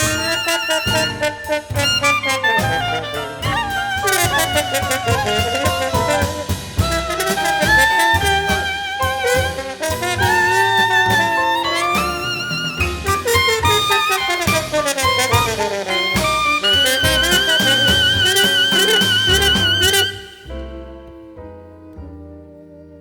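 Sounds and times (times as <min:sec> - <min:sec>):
drums with cymbals: 0:00.0 - 0:20.5
saxophone horn line: 0:00.0 - 0:20.5
piano: 0:00.0 - 0:23.0
walking bass: 0:00.0 - 0:23.0.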